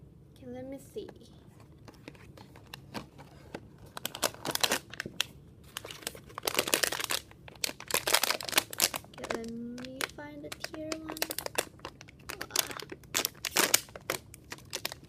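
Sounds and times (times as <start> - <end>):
foil bag crinkling: 2.0 - 15.0.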